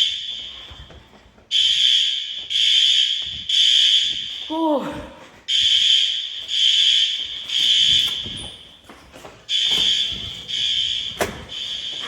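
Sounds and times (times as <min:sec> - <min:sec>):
fire alarm blasts: 0:00.0 - 0:04.7, 0:05.5 - 0:12.0.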